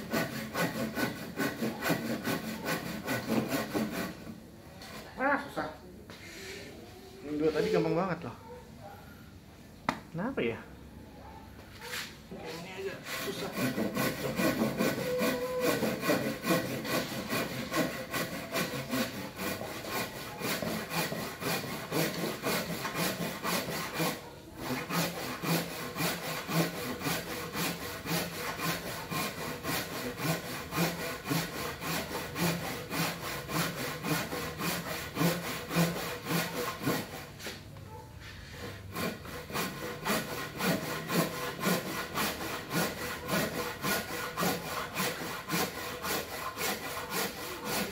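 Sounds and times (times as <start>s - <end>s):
hand saw cutting wood: 0.0s - 5.4s, 11.8s - 37.6s, 38.2s - 47.9s.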